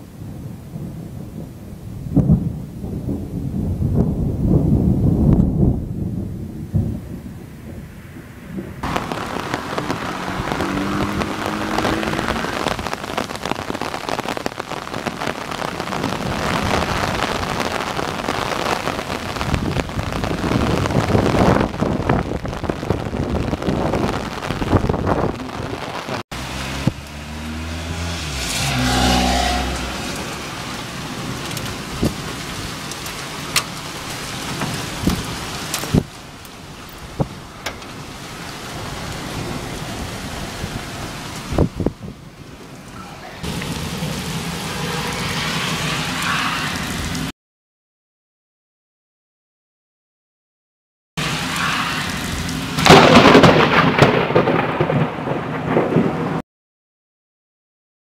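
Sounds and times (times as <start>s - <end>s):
heavy rain downpour: 0.0s - 47.3s, 51.2s - 56.4s
thunder rumbling: 0.0s - 47.3s, 51.2s - 56.4s.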